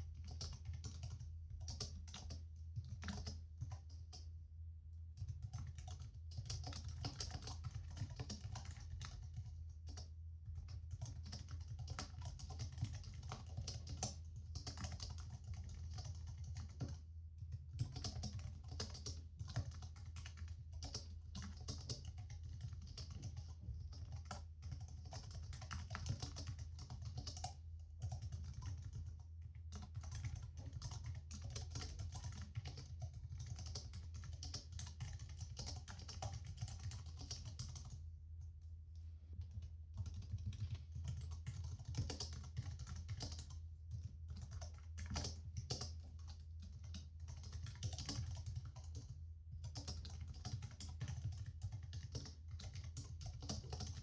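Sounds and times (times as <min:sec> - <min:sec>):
typing on a keyboard: 0:00.0 - 0:04.3, 0:05.2 - 0:38.0, 0:39.4 - 0:54.0.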